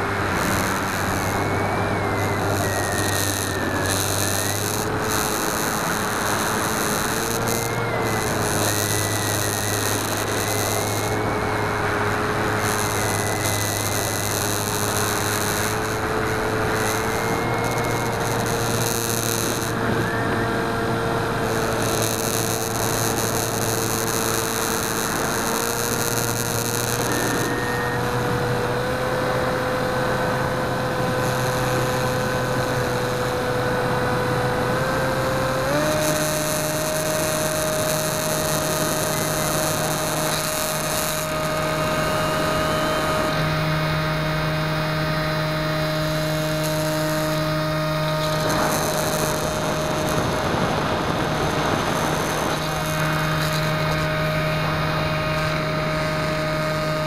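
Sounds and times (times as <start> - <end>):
electric motor propeller whining: 0.0 - 57.0.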